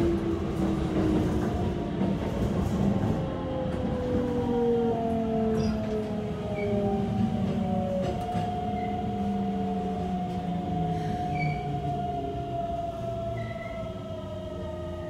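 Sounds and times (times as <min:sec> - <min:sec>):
train inverter whining: 0:00.0 - 0:15.0
wheels rumbling on rail: 0:00.0 - 0:15.0.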